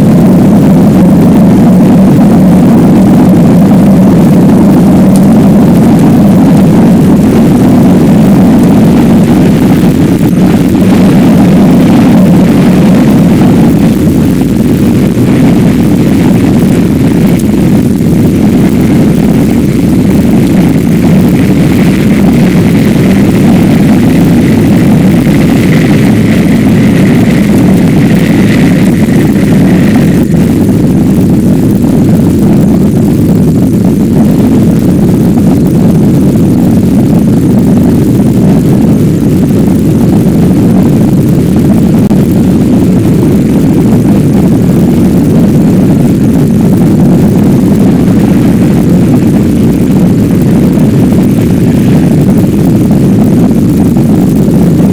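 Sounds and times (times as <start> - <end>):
faint high whine: 0.0 - 54.9
rocket engines rumbling: 0.0 - 54.9.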